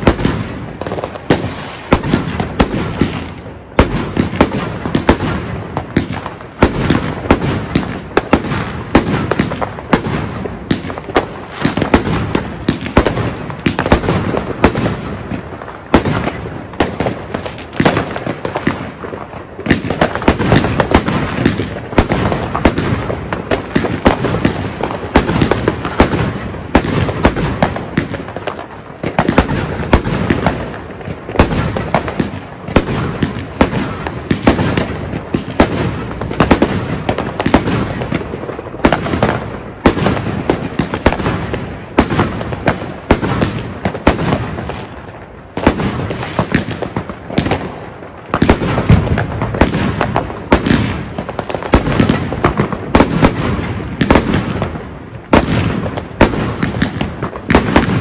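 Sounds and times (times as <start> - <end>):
firework cracks and bursts: 0.0 - 58.0.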